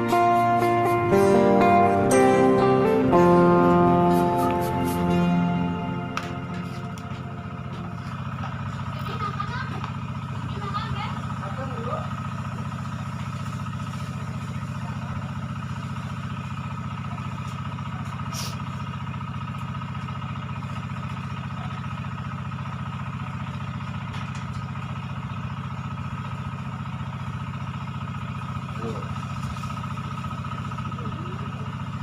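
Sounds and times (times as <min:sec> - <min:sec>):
engine droning: 0:00.0 - 0:32.0
thin steady whine: 0:00.0 - 0:32.0.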